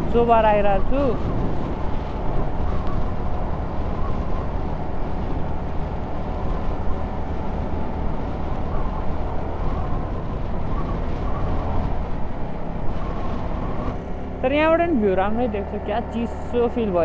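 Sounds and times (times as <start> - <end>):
motorcycle engine cruising: 0.0 - 17.0
wind rushing over microphone: 0.0 - 17.0.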